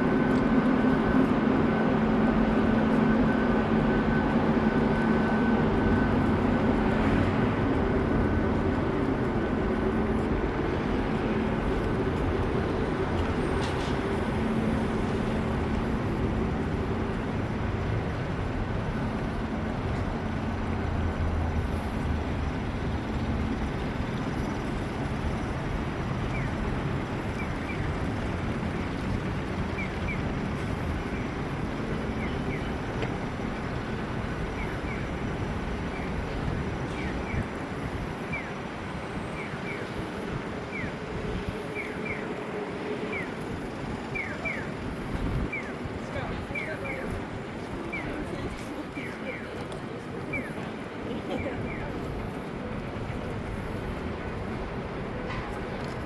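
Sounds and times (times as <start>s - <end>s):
constant rushing noise: 0.0s - 56.0s
vehicle hum: 0.0s - 56.0s.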